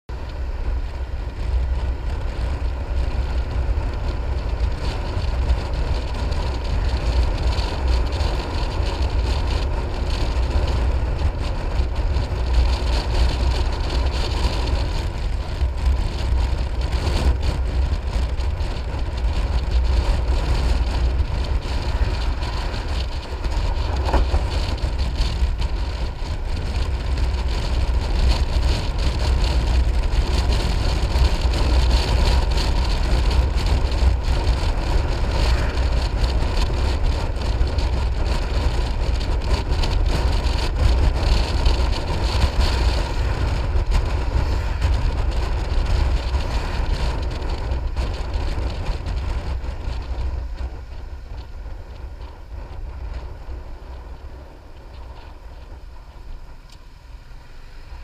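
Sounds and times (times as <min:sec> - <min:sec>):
wind and road noise: 0:00.0 - 0:58.0
wind buffeting microphone: 0:00.1 - 0:58.0
scooter engine running: 0:00.2 - 0:58.0.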